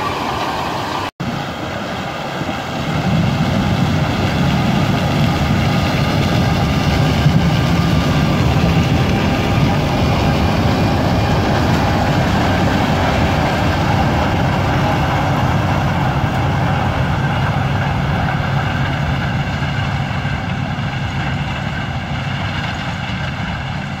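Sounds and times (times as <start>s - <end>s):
combine harvester droning: 0.0s - 24.0s.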